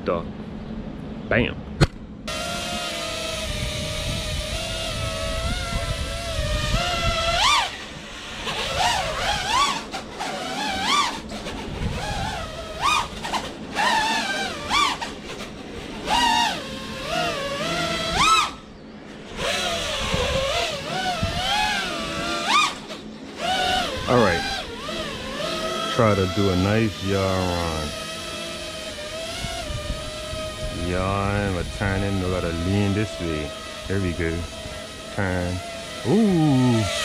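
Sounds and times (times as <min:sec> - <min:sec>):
drone motors whining: 0:01.8 - 0:37.0.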